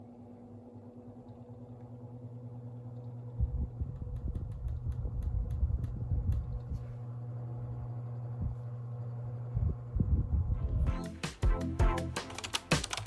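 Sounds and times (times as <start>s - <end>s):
electric fan motor humming: 0.0s - 13.0s.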